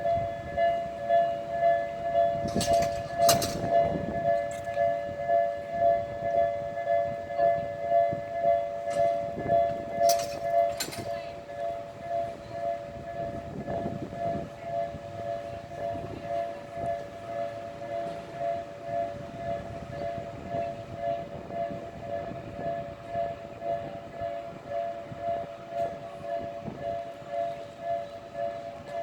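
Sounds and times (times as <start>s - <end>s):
level crossing warning bell: 0.0s - 29.0s.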